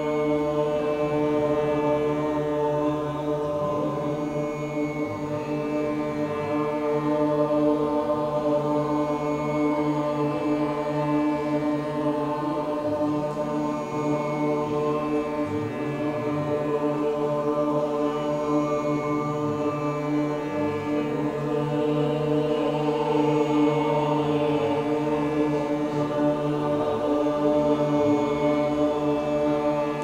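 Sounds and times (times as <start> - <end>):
man chanting mantra: 0.0 - 30.0
steady drone: 0.0 - 30.0.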